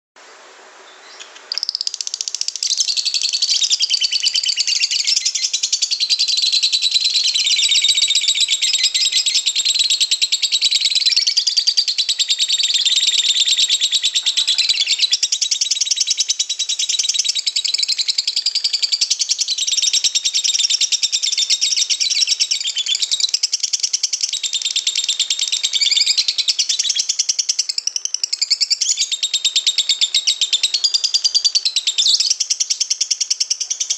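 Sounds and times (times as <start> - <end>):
lovebird chattering trill: 1.1 - 33.9.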